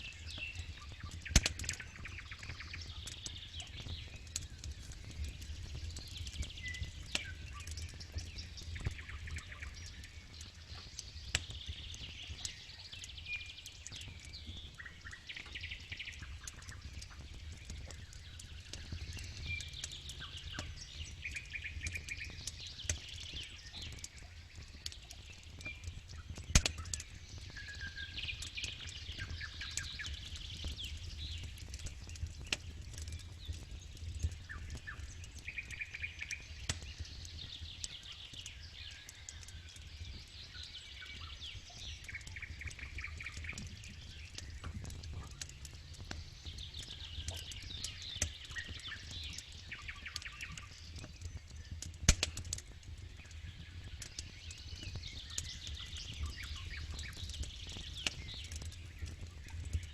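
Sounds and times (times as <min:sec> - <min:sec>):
campfire crackling and popping: 0:00.0 - 0:59.9
birds chirping and trilling: 0:05.6 - 0:51.8, 0:52.4 - 0:59.9.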